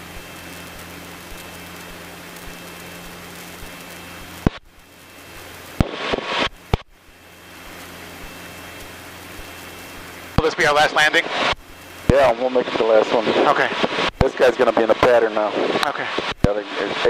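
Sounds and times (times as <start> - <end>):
aircraft engine through headset: 0.0 - 17.0
radio static burst: 0.0 - 17.0.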